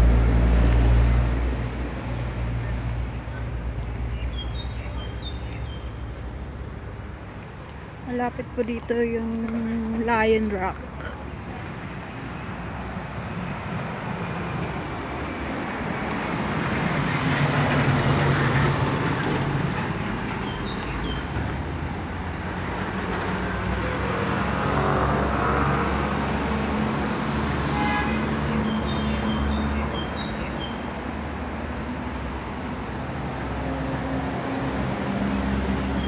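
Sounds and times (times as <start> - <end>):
vehicles passing on a road: 0.0 - 36.0.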